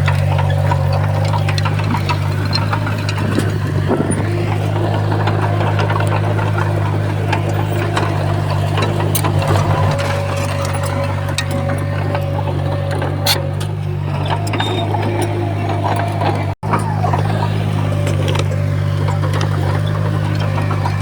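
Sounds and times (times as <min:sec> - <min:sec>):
bulldozer diesel engine running: 0:00.0 - 0:21.0
clicks and clanks: 0:00.0 - 0:21.0.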